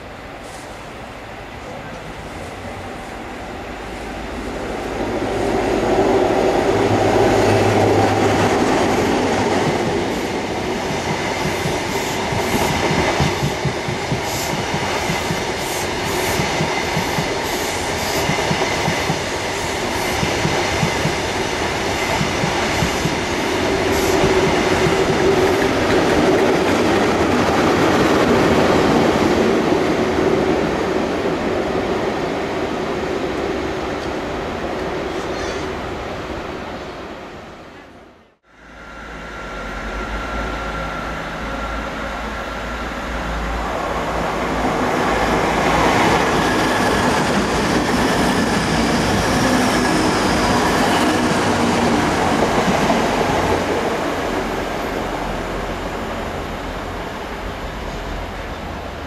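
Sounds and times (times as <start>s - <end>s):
diesel train engine: 0.0s - 32.0s, 37.8s - 59.0s.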